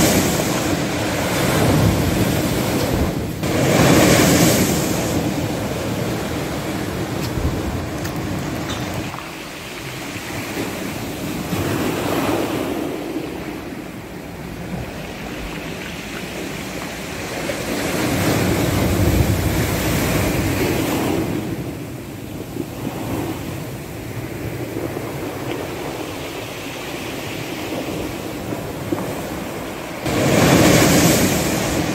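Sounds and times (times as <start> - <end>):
sea surf: 0.0 - 31.9
wind: 0.0 - 31.9.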